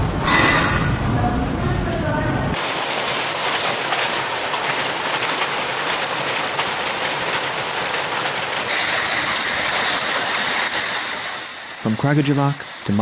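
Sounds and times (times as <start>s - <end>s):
heavy rain pouring: 2.4s - 13.0s.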